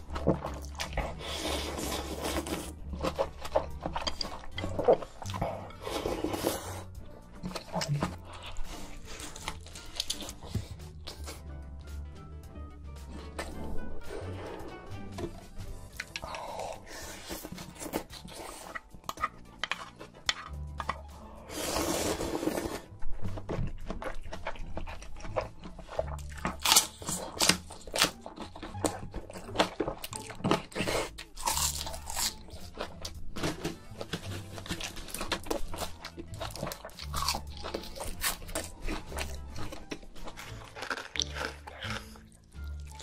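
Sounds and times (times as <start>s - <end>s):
person crunching and chewing: 0.0s - 11.4s, 15.8s - 43.0s
background music with bass line: 0.0s - 43.0s.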